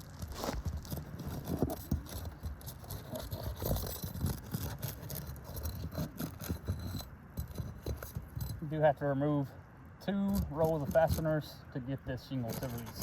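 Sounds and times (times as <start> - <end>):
tool scraping under roof shingle: 0.0 - 8.8, 10.0 - 13.0.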